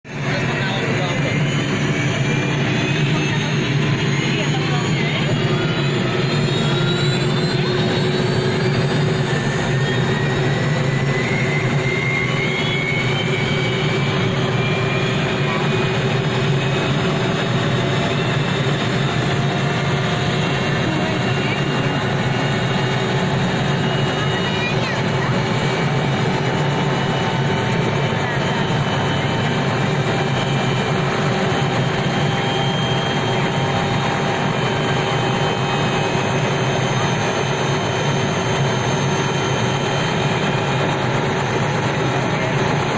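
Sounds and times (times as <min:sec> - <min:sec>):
helicopter engine and rotor: 0:00.0 - 0:42.9
faint high turbine whine: 0:00.1 - 0:42.9.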